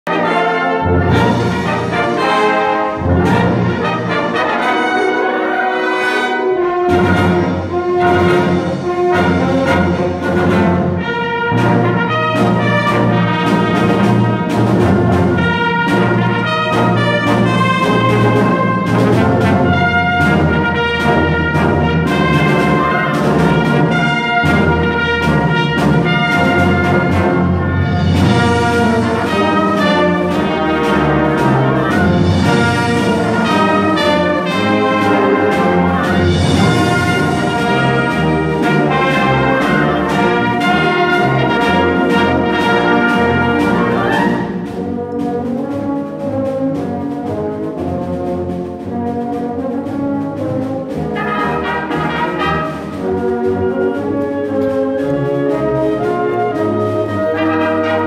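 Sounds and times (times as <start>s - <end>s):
concert wind band playing: 0.0s - 58.0s
tubas on bass line: 0.1s - 58.0s.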